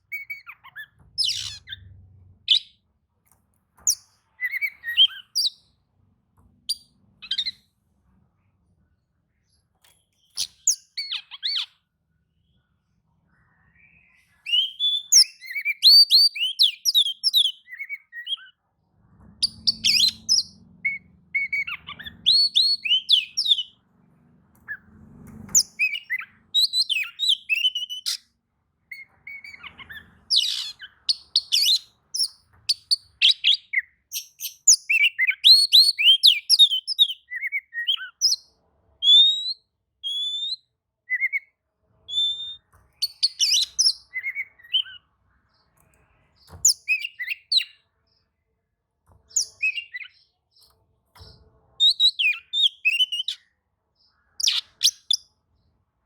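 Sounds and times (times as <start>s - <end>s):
songbird whistles and chirps: 0.0s - 2.8s, 3.8s - 5.8s, 6.6s - 7.7s, 9.3s - 12.7s, 13.3s - 18.6s, 19.4s - 23.8s, 25.5s - 48.2s, 49.3s - 55.5s.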